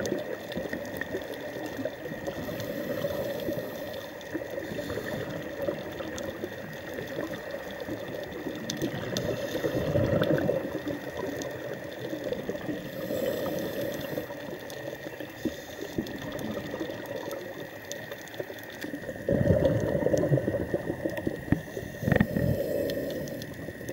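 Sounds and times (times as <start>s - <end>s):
crackle of tiny clicks: 0.0s - 23.9s
scuba breathing bubbles: 0.0s - 23.9s.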